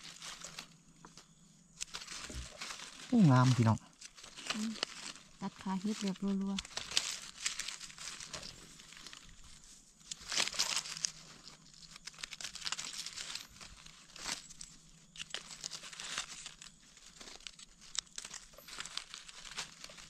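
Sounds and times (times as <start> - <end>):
dry leaves crackling and rustling: 0.0 - 20.0.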